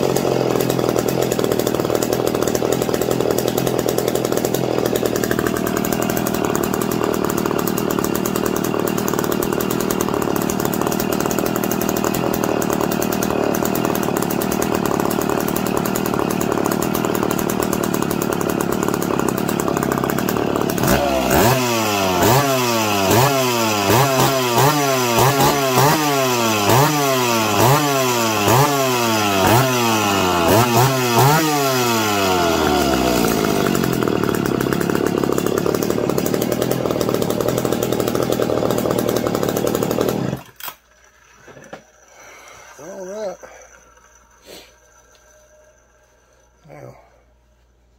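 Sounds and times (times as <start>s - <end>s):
chainsaw engine revving: 0.0s - 40.8s, 41.6s - 45.0s.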